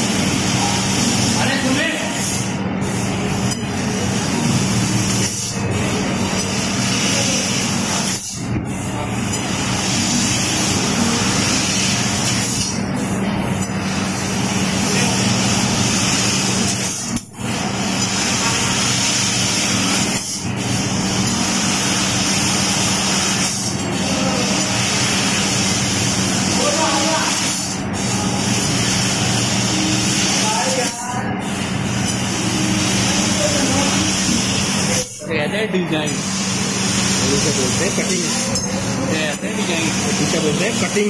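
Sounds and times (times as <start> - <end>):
laser cutting hiss: 0.0 - 41.0
machine hum: 0.0 - 41.0.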